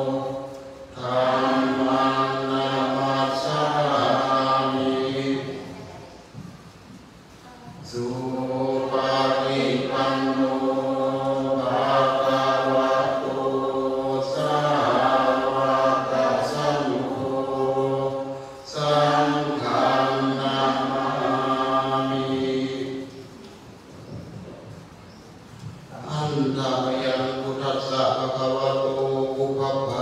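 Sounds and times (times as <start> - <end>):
men chanting in unison: 0.0 - 5.8, 7.8 - 23.1, 25.9 - 30.0.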